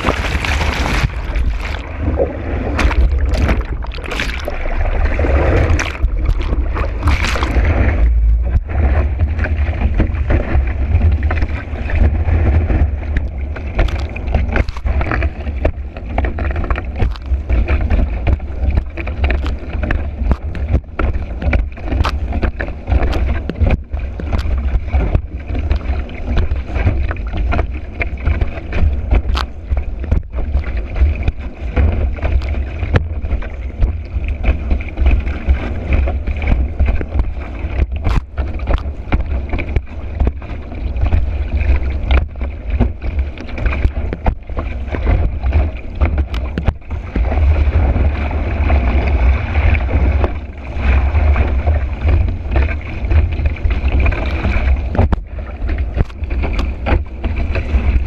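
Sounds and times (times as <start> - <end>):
heavy wind rumble: 0.0 - 58.0
water rushing: 0.0 - 58.0.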